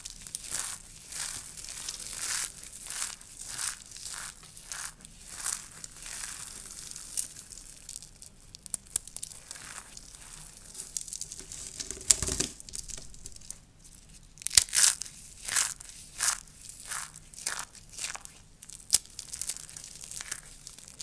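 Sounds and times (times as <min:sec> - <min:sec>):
soap curls crackling when crushed: 0:00.0 - 0:21.0.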